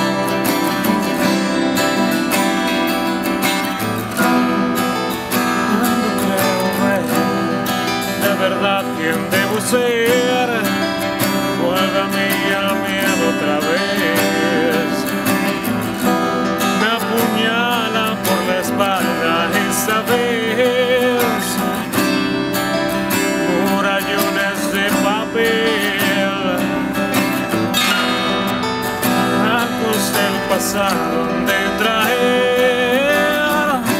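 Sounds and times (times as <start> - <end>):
acoustic guitars strumming: 0.0 - 33.9
wordless vocal melody: 0.0 - 33.9.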